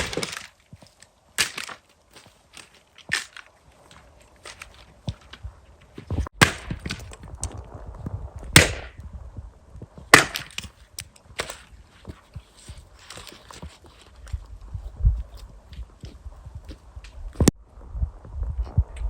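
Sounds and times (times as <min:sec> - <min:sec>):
wood cracking and splintering: 0:00.0 - 0:09.1, 0:09.8 - 0:17.6.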